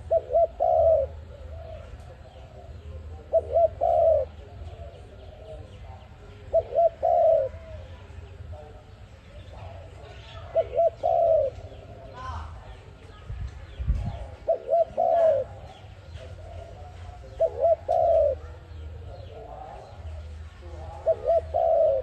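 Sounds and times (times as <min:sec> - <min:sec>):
dove cooing: 0:00.0 - 0:08.8, 0:09.5 - 0:12.2, 0:14.0 - 0:22.0.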